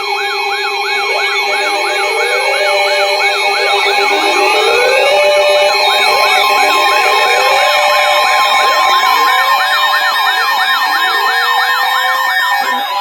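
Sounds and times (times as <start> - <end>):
warbling siren tones: 0.0 - 13.0
rising sweep tones: 1.0 - 13.0
steady alert tone: 1.0 - 13.0.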